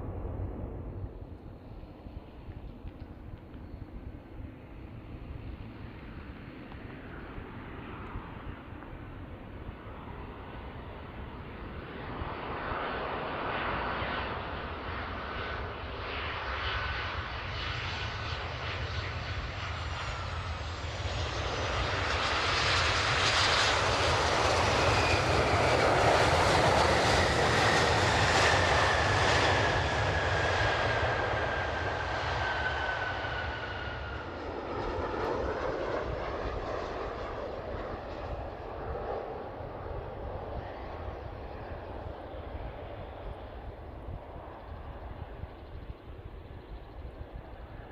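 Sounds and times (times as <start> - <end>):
jet airliner flying past: 0.0 - 47.9.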